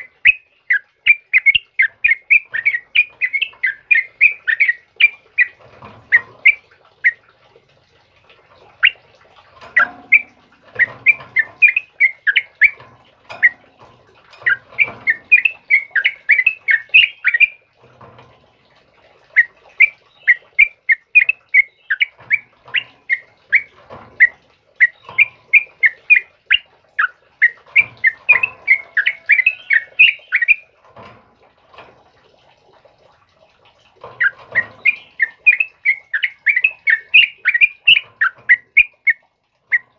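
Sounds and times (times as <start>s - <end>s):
bulbul singing: 0.0s - 7.3s, 8.6s - 17.7s, 19.2s - 30.8s, 34.0s - 39.9s.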